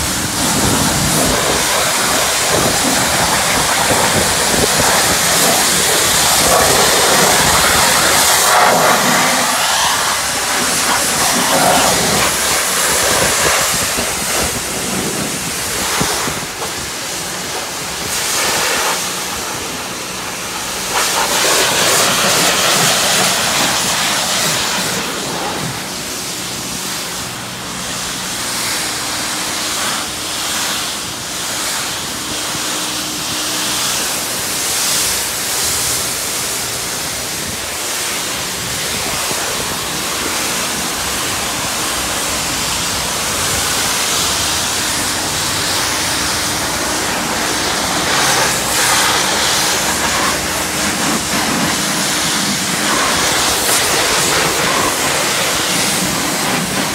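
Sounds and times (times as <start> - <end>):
pressure washer spray hissing: 0.0 - 56.9.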